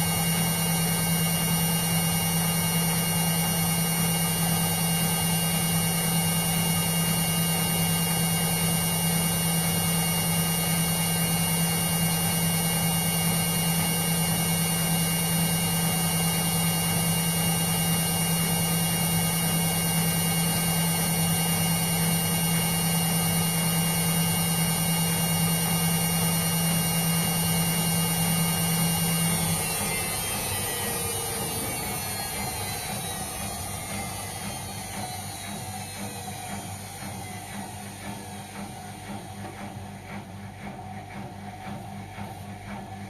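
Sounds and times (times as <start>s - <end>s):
washing machine drum coasting down: 0.0s - 43.0s
washing machine spinning: 0.0s - 43.0s.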